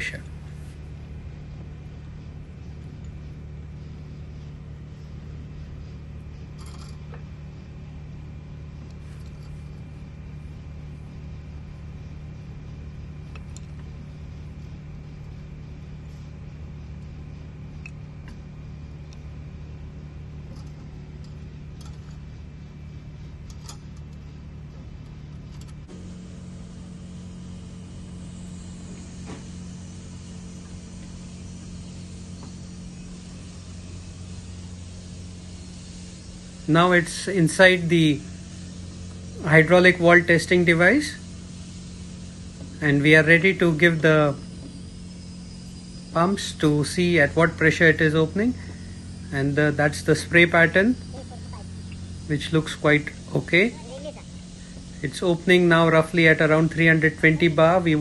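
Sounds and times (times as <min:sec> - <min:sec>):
low machinery hum: 0:00.0 - 0:58.0.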